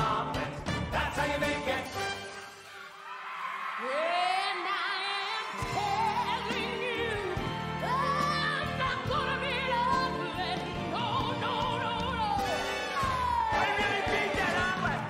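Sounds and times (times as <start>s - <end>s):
operatic singing voice: 0.0s - 2.4s, 3.6s - 15.0s.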